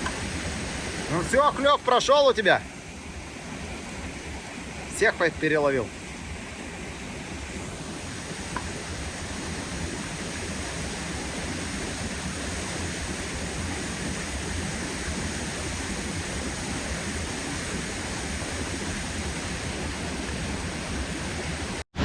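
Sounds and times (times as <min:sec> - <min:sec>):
waterfall rushing: 0:00.0 - 0:21.8.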